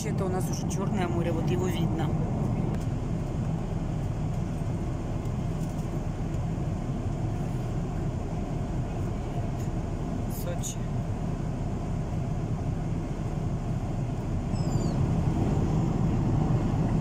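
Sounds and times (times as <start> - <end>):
jet airliner cabin rumble: 0.0 - 17.0.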